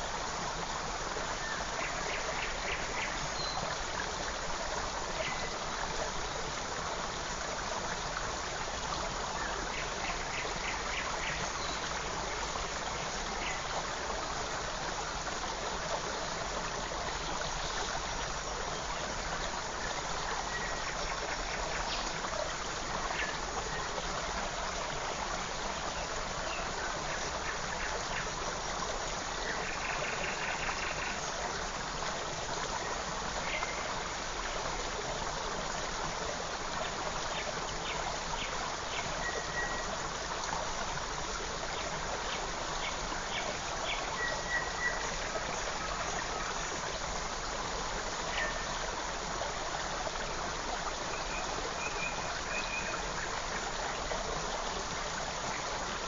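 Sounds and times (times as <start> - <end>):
creek rushing and trickling: 0.0 - 56.0.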